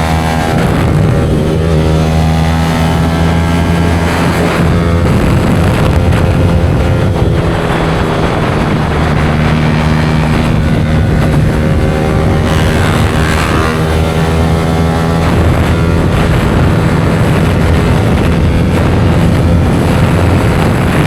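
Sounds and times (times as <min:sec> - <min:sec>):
motorcycle engine running: 0:00.0 - 0:21.0
wind noise: 0:00.0 - 0:21.0.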